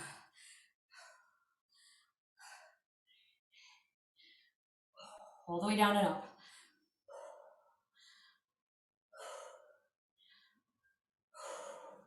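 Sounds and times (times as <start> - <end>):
woman breathing hard: 0.0 - 5.5, 6.3 - 8.5, 9.2 - 10.8, 11.4 - 12.0.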